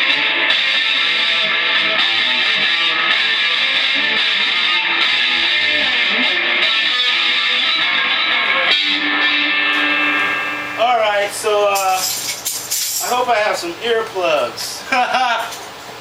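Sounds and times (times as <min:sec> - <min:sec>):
loud electric guitar noise music: 0:00.0 - 0:13.3.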